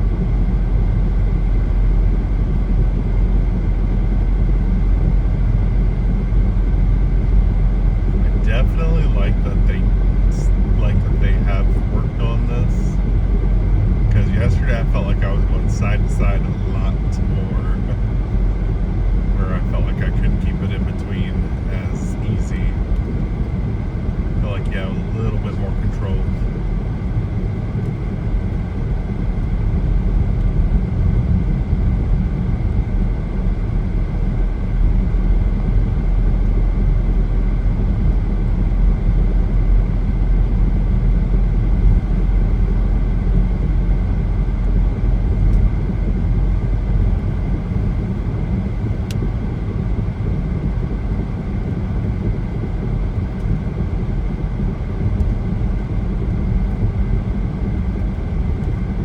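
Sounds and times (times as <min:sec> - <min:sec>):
car cabin road and engine noise: 0:00.0 - 0:59.0.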